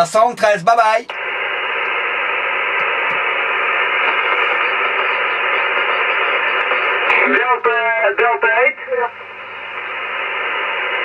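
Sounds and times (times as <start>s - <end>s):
muffled radio static hiss: 0.0s - 11.0s.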